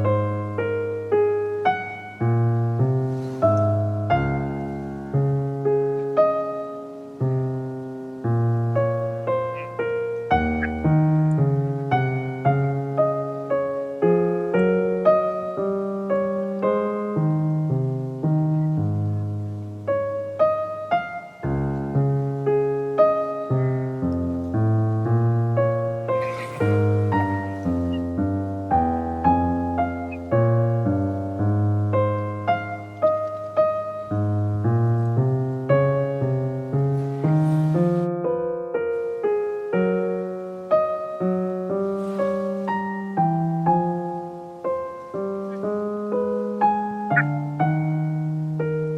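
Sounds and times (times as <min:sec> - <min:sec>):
soft piano music: 0:00.0 - 0:48.9.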